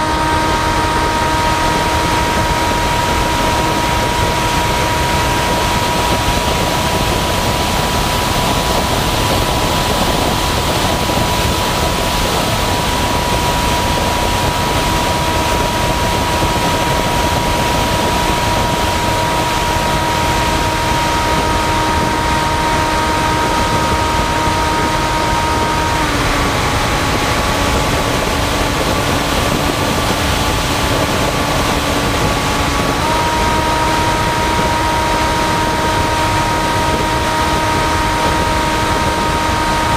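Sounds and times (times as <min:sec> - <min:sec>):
electric motor and propeller whine: 0:00.0 - 0:39.9
wind rush: 0:00.0 - 0:39.9.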